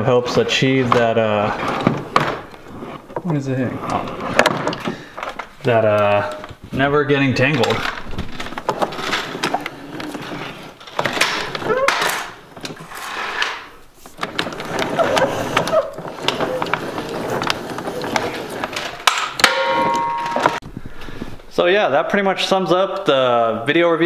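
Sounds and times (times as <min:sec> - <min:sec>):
plastic equipment rattling and scraping: 0:00.0 - 0:20.6.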